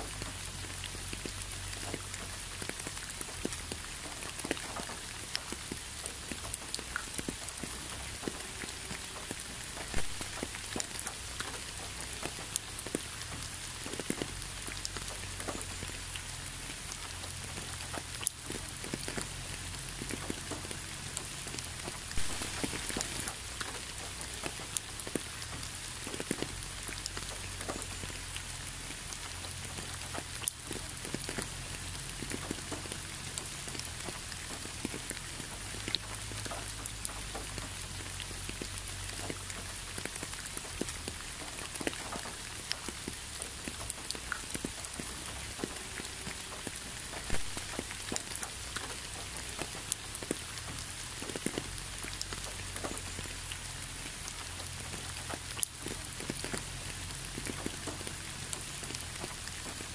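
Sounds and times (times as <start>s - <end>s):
steady rain with ticking drops: 0.0s - 59.9s.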